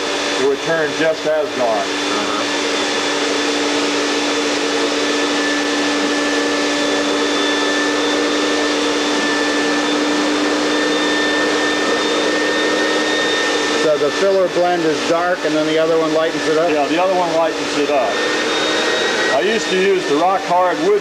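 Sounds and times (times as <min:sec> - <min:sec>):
electric motor and fan whirring: 0:00.0 - 0:21.0.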